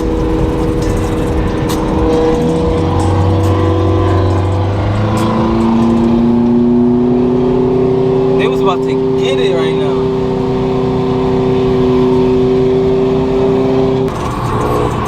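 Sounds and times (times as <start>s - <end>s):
car engines running: 0.0s - 15.0s
engine revs climbing: 0.0s - 15.0s.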